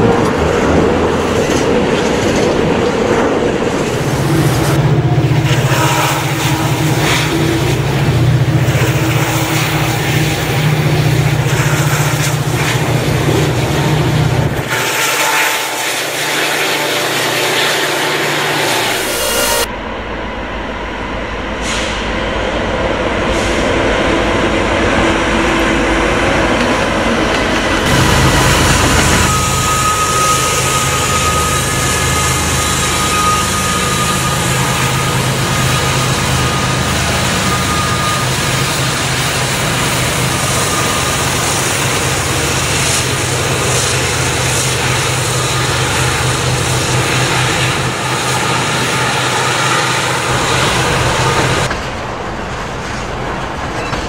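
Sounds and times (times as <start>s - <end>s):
diesel locomotive engines droning: 0.0s - 54.0s
passing train rumble: 0.0s - 54.0s
thin high whine: 3.7s - 23.6s, 27.9s - 54.0s.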